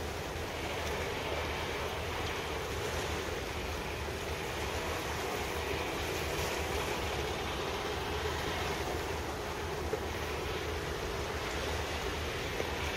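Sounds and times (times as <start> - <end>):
harbour ambience rumble and hiss: 0.0 - 12.9
wind buffeting microphone: 0.0 - 12.9.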